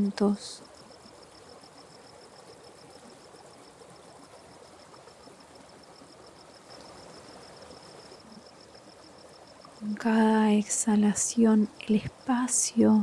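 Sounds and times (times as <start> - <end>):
stream water rushing: 0.0 - 12.8
insect calling: 0.0 - 13.0.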